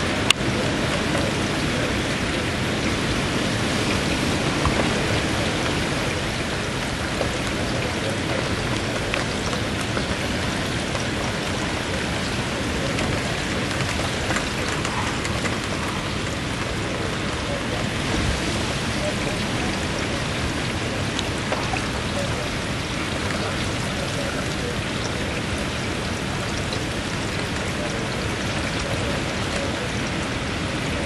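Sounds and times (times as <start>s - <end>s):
heavy rain falling: 0.0s - 31.0s
wind: 0.0s - 31.0s.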